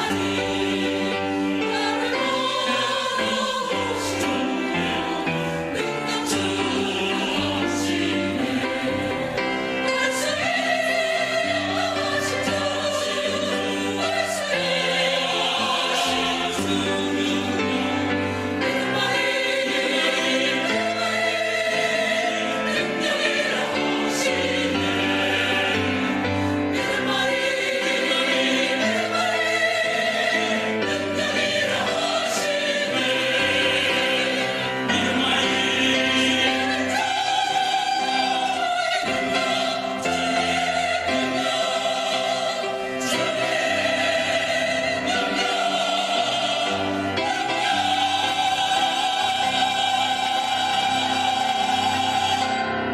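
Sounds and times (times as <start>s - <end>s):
choir singing in harmony: 0.0s - 52.9s.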